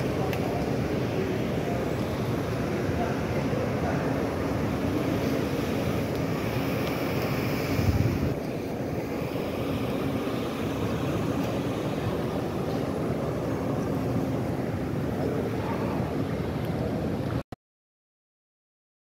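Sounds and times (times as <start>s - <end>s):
fan and ventilation hum: 0.0s - 17.4s
movement of many people: 0.0s - 17.4s.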